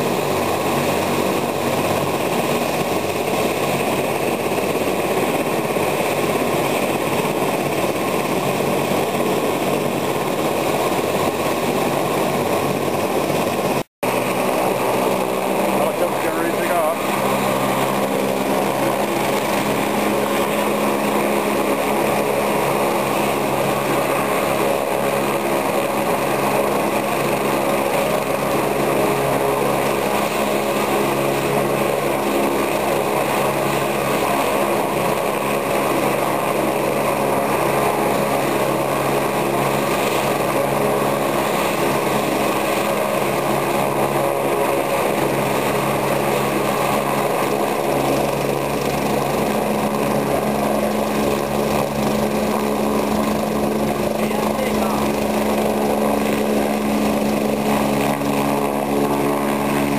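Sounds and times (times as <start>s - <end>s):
helicopter engine and rotor: 0.0s - 59.9s.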